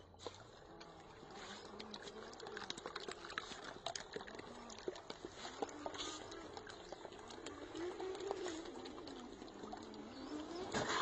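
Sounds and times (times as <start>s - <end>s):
splashing in muddy water: 0.0s - 11.0s.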